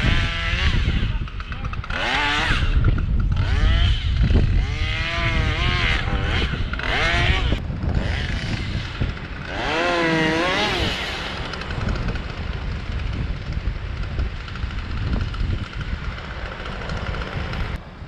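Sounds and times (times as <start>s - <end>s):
chainsaw cutting wood: 0.0s - 17.8s
wind on microphone: 0.0s - 18.0s.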